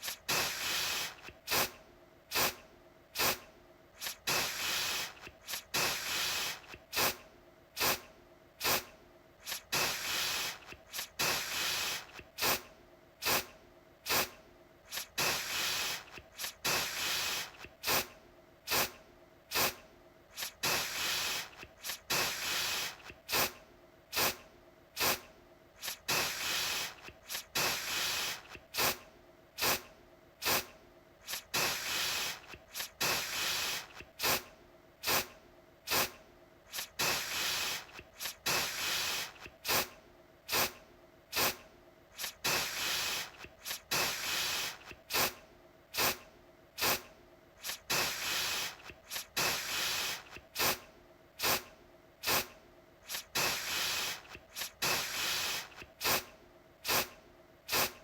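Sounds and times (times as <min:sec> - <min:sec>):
aerosol spray can hissing: 0:00.0 - 0:02.6, 0:03.2 - 0:03.4, 0:04.0 - 0:07.2, 0:07.8 - 0:18.1, 0:18.7 - 0:24.4, 0:25.0 - 0:29.0, 0:29.6 - 0:35.3, 0:35.9 - 0:39.9, 0:40.5 - 0:41.6, 0:42.2 - 0:45.4, 0:46.0 - 0:46.2, 0:46.8 - 0:50.8, 0:51.4 - 0:58.0.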